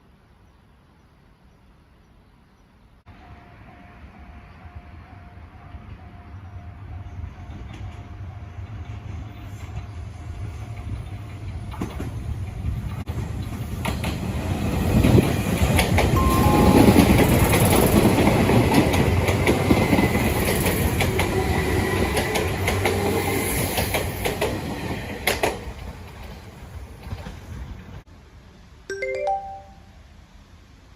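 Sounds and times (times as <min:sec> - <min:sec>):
wheel noise on rails: 0:03.1 - 0:28.0
train rumbling past: 0:03.1 - 0:28.6.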